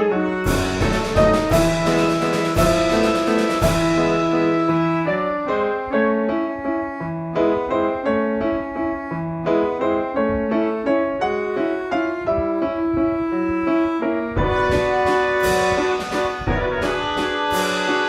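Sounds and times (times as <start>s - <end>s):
light classical piano piece: 0.0s - 18.0s.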